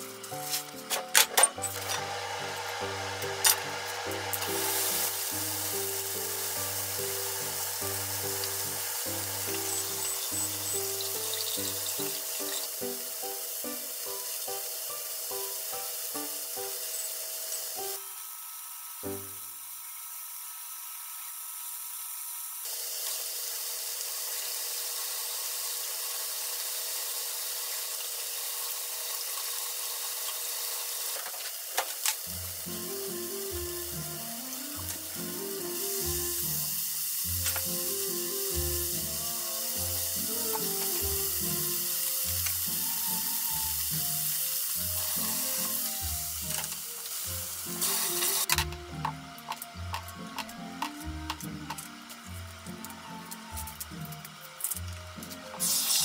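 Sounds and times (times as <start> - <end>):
meat sizzling in a frying pan: 3.2 - 56.0.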